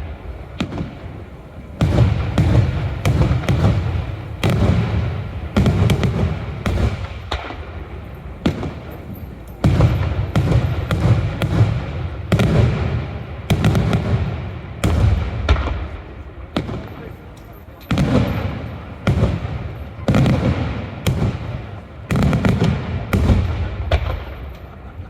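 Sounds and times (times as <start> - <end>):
fireworks exploding: 0.0 - 25.0.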